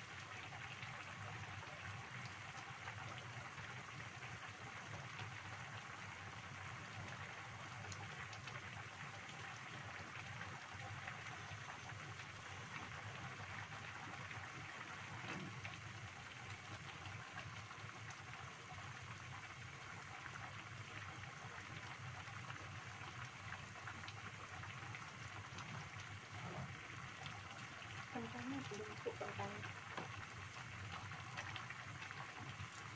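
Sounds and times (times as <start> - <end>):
soup boiling in a pan: 0.0 - 32.9.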